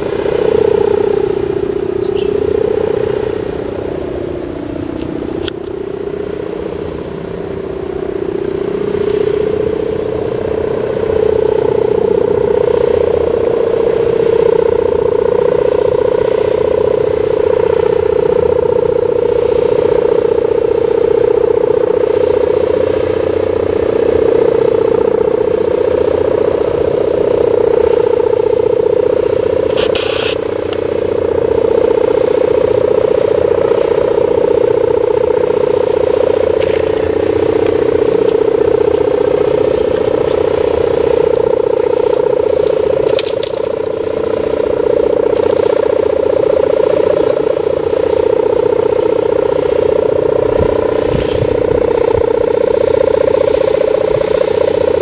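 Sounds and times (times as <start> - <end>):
kite hummer droning in wind: 0.0 - 55.0.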